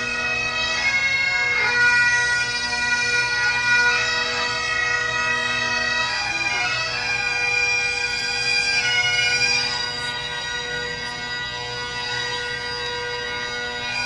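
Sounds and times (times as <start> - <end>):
bagpipes playing a melody: 0.0 - 14.0.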